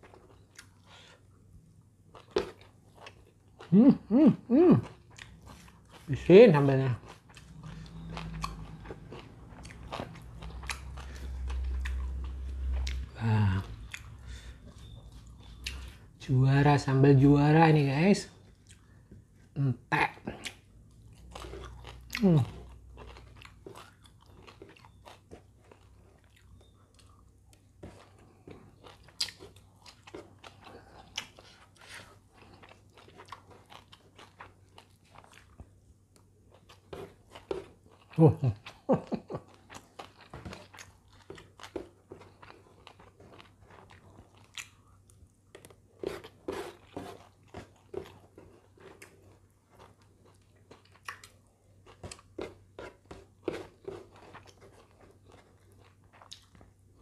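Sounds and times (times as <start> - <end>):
crunchy chewing: 4.8 - 16.1, 20.3 - 57.0.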